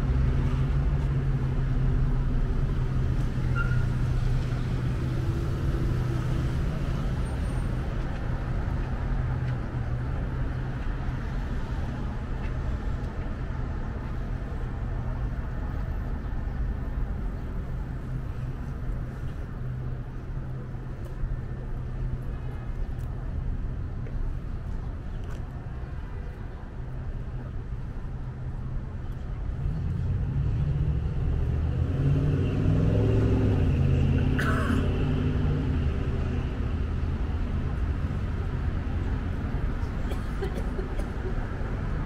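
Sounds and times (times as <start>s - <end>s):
city street traffic hum: 0.0s - 42.0s.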